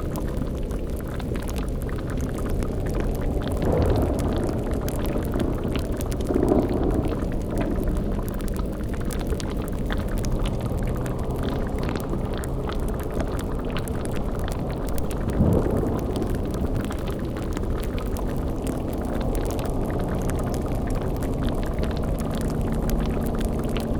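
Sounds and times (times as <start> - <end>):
bubbling cauldron: 0.0 - 23.9
low rumbling drone: 0.0 - 23.9
small crackles: 0.0 - 23.9.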